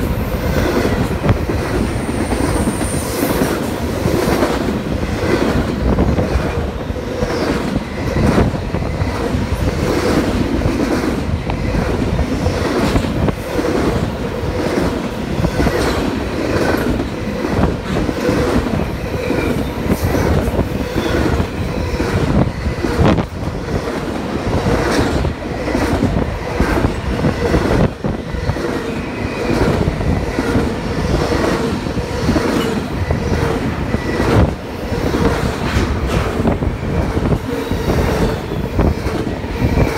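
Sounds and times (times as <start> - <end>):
freight train rumble: 0.0 - 39.9.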